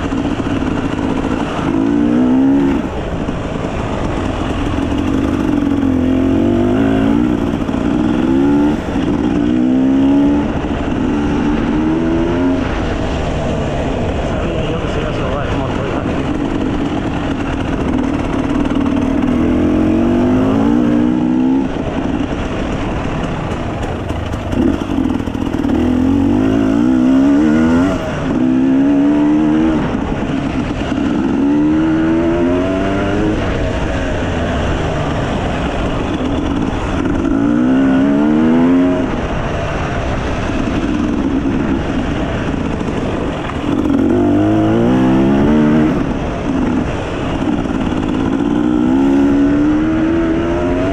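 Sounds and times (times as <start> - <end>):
dirt bike engine accelerating: 0.0 - 50.9.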